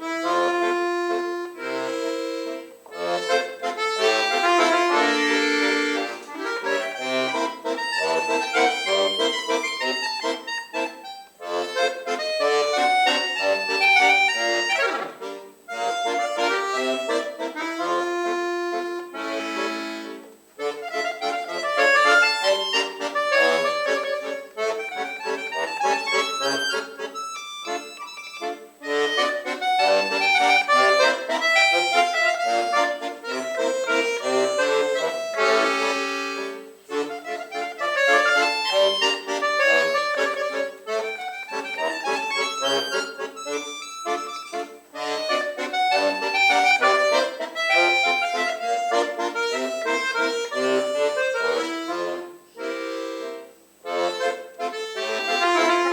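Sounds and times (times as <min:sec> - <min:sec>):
solo accordion playing: 0:00.0 - 0:55.9.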